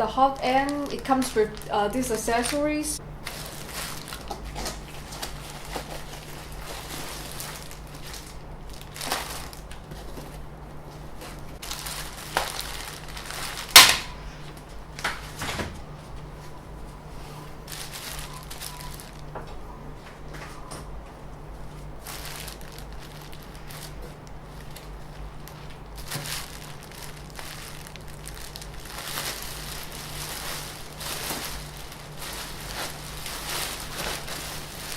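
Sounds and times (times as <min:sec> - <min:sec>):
packing material rustling: 0:00.0 - 0:15.6, 0:17.2 - 0:19.6, 0:21.4 - 0:34.9.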